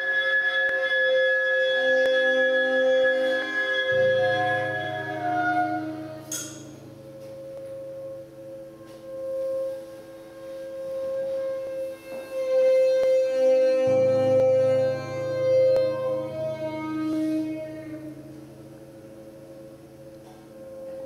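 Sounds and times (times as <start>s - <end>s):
low electronic hum: 0.0s - 21.0s.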